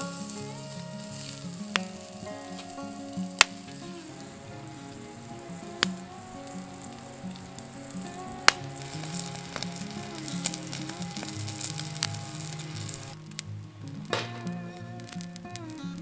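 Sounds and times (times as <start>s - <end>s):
food sizzling in a pan: 0.0s - 16.0s
soft background music: 0.0s - 16.0s.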